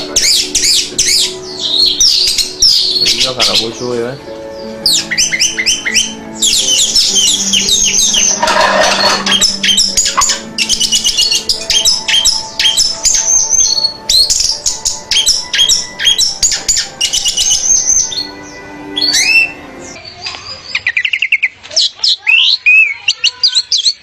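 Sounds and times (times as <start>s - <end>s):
thrush singing: 0.0s - 20.0s.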